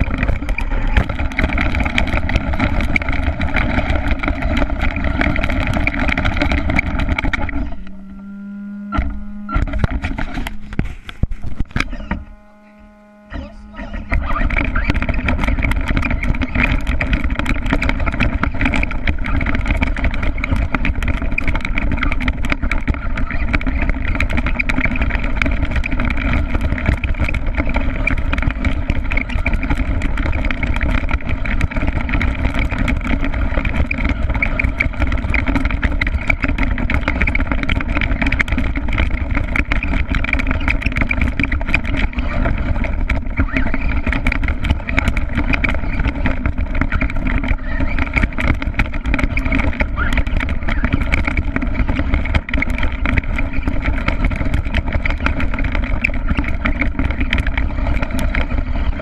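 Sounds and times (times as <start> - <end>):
toy truck motor and drivetrain: 0.0 - 59.0.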